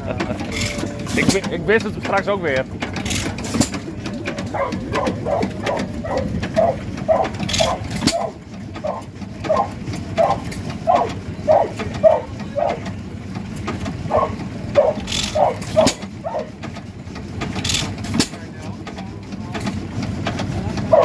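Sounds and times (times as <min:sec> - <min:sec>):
stationary engine chuffing: 0:00.0 - 0:21.0.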